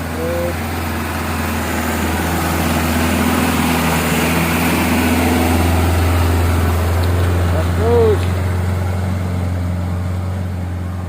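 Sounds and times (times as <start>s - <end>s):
diesel truck engine climbing: 0.0s - 11.0s.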